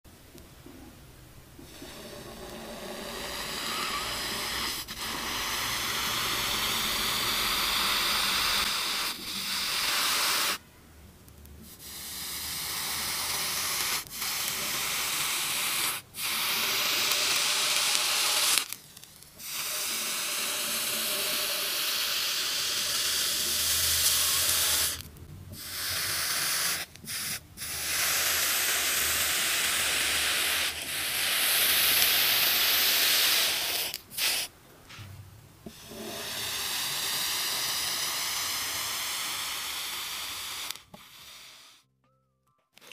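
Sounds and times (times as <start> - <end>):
hot ball hissing on ice: 1.6 - 10.6, 11.6 - 35.1, 35.7 - 41.9.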